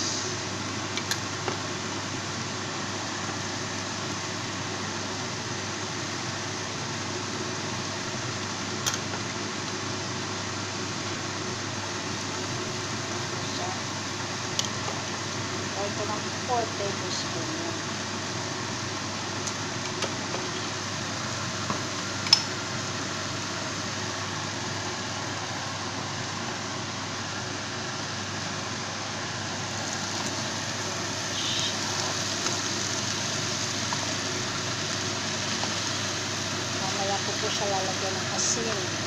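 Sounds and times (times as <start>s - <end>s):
food sizzling in a frying pan: 0.0s - 25.4s, 26.2s - 39.0s.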